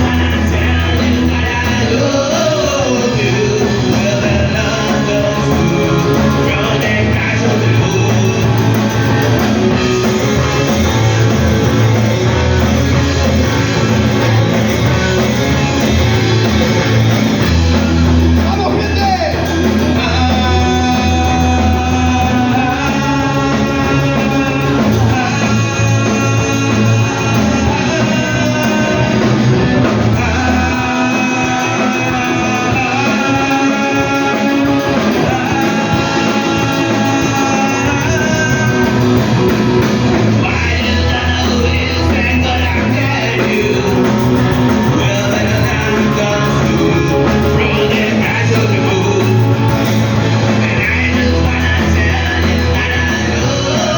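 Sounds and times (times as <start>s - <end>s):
rock song with singing: 0.0s - 53.9s
steady bass line: 0.0s - 53.9s.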